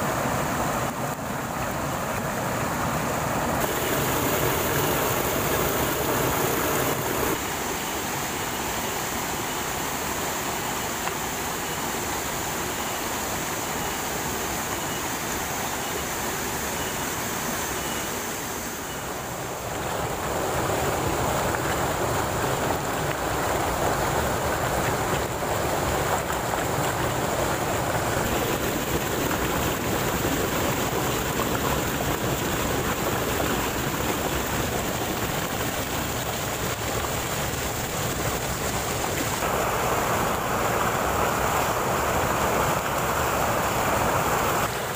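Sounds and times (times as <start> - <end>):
waterfall cascading over rocks: 0.0 - 44.9.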